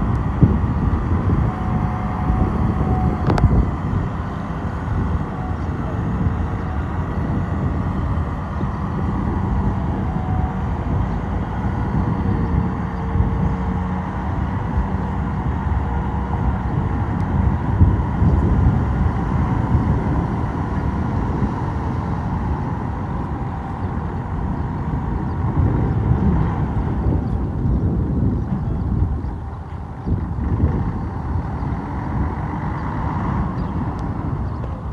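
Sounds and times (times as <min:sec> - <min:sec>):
heavy diesel machinery engine drone: 0:00.0 - 0:34.9.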